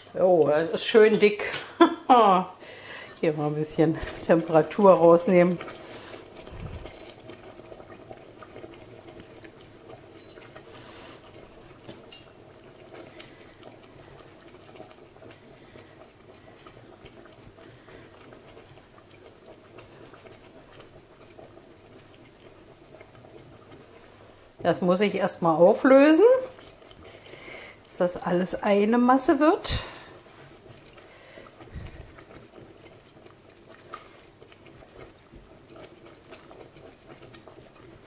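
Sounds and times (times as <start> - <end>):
sauce bubbling: 0.0 - 38.0.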